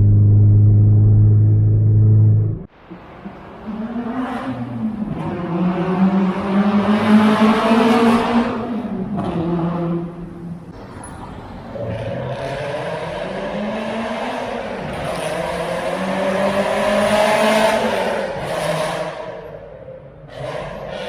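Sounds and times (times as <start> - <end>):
car engine revving: 0.0 - 10.7, 11.8 - 19.5.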